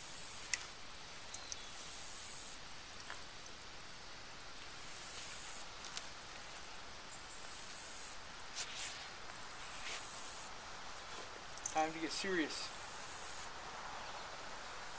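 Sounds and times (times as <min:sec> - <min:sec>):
insects buzzing: 0:00.0 - 0:14.9.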